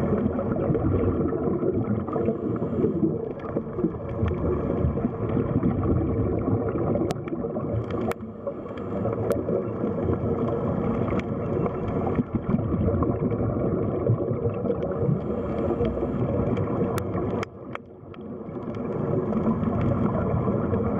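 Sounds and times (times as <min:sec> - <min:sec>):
aquarium water churning: 0:00.0 - 0:20.9.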